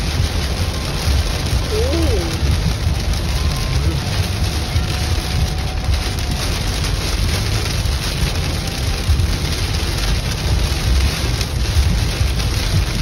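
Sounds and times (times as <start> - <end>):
heavy rain on car windshield: 0.0 - 13.0
tyre noise on wet road: 0.0 - 13.0.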